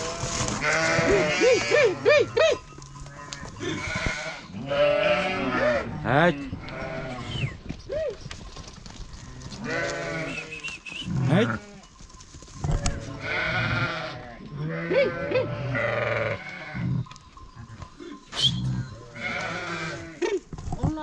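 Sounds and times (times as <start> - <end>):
sheep bleating: 0.0 - 7.5, 9.2 - 11.9, 12.7 - 20.4.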